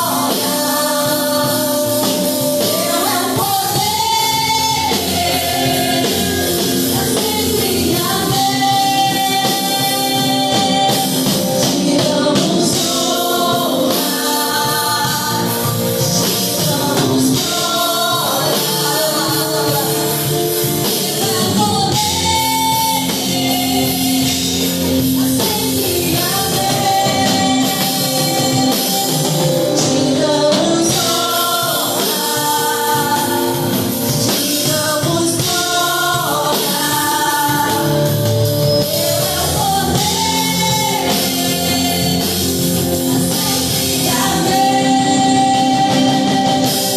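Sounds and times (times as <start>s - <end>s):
band with drums: 0.0s - 46.9s
voices singing worship song: 0.0s - 46.9s.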